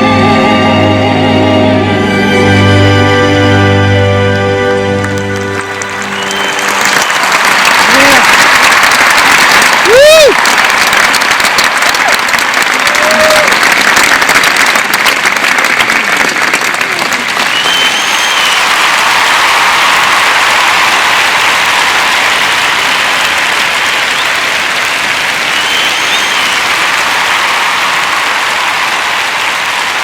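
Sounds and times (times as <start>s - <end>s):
audience applauding: 4.7s - 30.0s.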